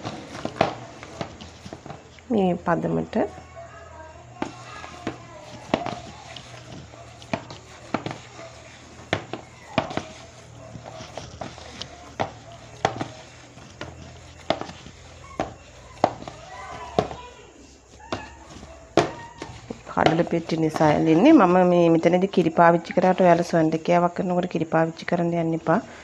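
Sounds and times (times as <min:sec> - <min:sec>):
hands kneading dough in bowl: 0:00.0 - 0:26.0.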